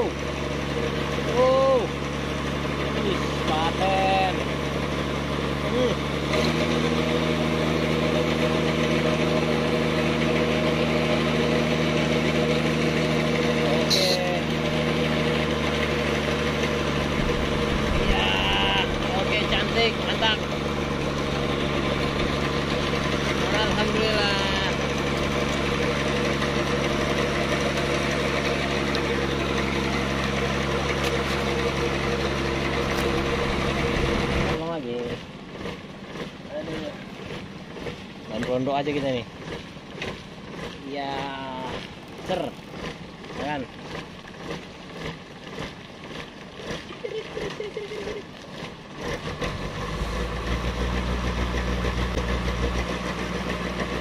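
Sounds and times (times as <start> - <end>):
pump engine droning: 0.0 - 54.0.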